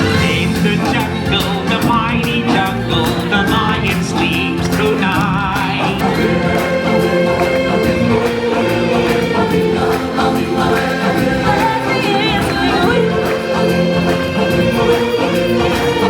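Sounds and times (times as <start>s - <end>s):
choir singing: 0.0s - 16.0s
instrumental accompaniment: 0.0s - 16.0s.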